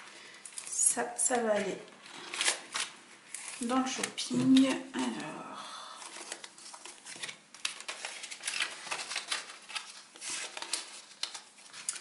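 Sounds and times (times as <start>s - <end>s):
paper envelopes rustling: 1.4s - 12.0s.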